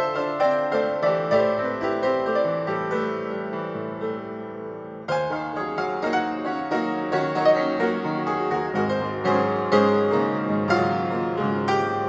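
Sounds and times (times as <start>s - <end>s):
flowing piano music: 0.0s - 12.0s.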